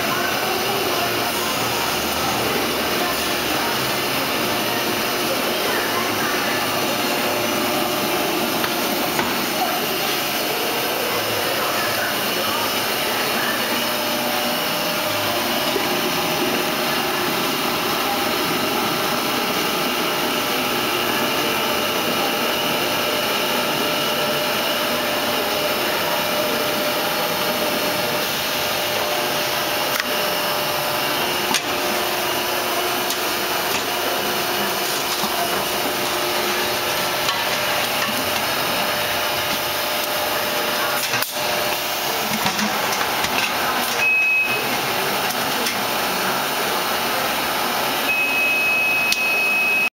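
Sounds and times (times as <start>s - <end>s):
filling line machine running: 0.0s - 49.9s.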